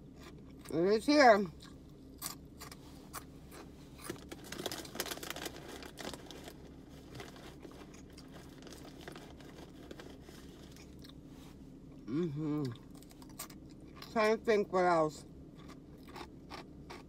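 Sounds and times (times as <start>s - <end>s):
chewing crunchy snack: 0.0s - 0.8s, 1.5s - 11.2s, 11.9s - 14.2s, 15.4s - 17.0s.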